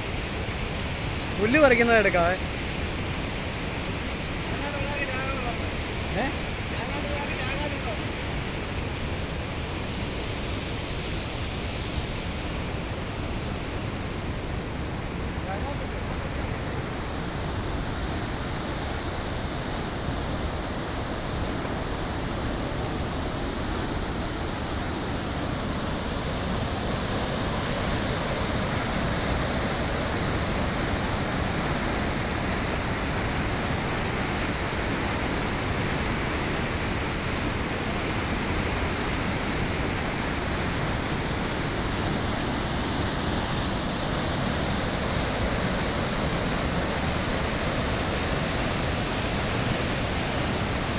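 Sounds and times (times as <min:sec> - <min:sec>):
waterfall roaring: 0:00.0 - 0:50.9.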